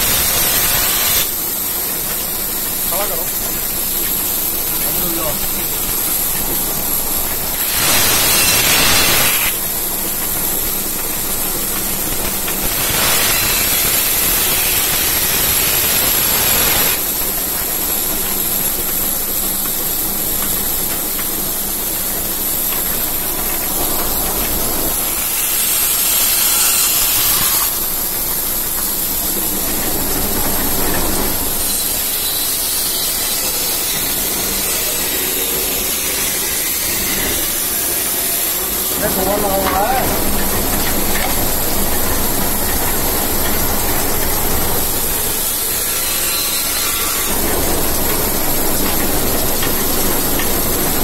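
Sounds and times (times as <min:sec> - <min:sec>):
belt-driven machine hissing: 0:00.0 - 0:51.0.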